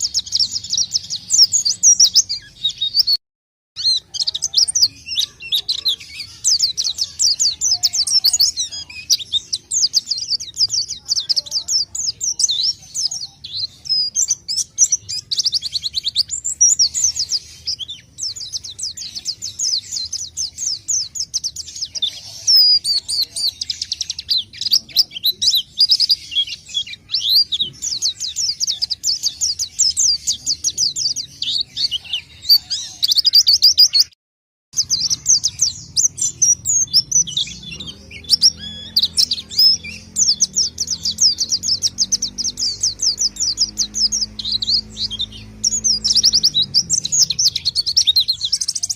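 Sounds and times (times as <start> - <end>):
bird twittering song: 0.0 - 3.2, 3.8 - 48.9.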